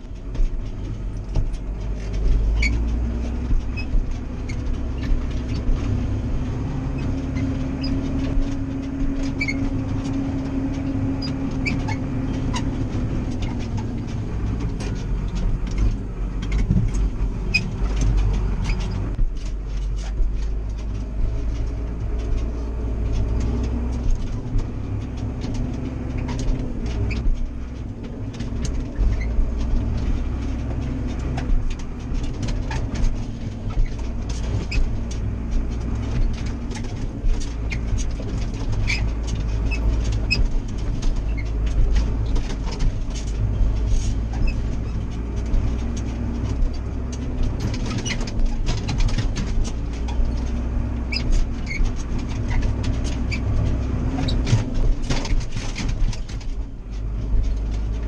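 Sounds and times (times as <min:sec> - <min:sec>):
rattles and knocks from cab: 0:00.0 - 0:58.0
tractor diesel engine running: 0:00.0 - 0:58.0.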